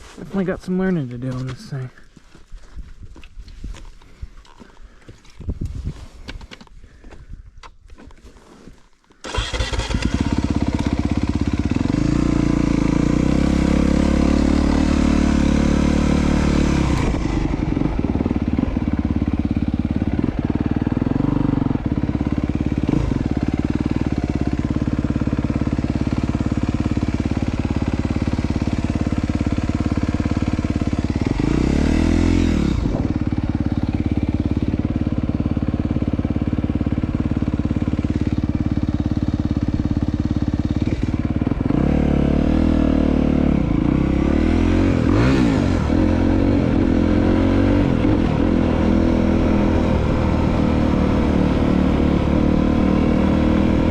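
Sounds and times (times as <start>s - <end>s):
motorcycle engine revving: 9.2s - 53.9s.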